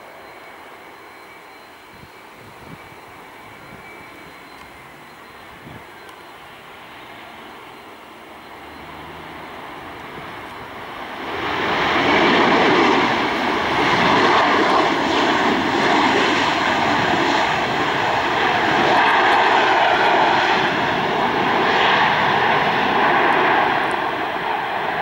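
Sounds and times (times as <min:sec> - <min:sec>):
jet engines running loud: 0:00.0 - 0:25.0.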